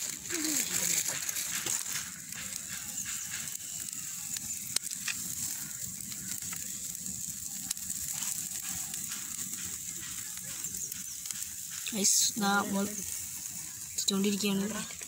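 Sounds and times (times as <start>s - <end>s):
chicken sizzling on a grill: 0.0s - 15.0s
fire crackling: 0.0s - 15.0s
sharp fire pops: 0.0s - 15.0s.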